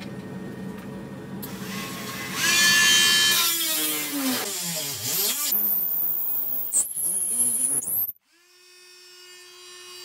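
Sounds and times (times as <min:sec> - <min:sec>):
rotary tool whining: 0:01.5 - 0:10.0.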